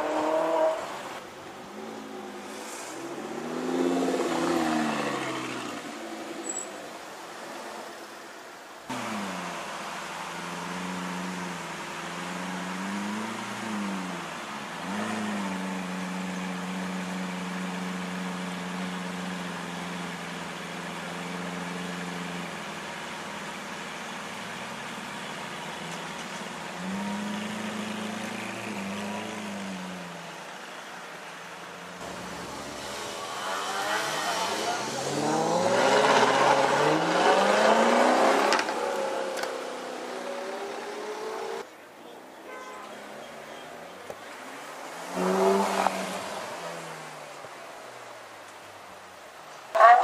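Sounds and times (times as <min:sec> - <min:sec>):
sports car engines revving: 0:00.0 - 0:08.0, 0:08.8 - 0:41.7, 0:43.0 - 0:48.4, 0:49.1 - 0:50.0.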